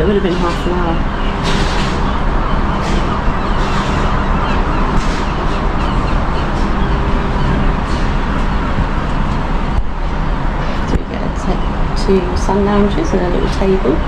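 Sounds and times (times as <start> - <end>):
low machinery hum: 0.0 - 14.0
soft wind gusts: 0.0 - 14.0.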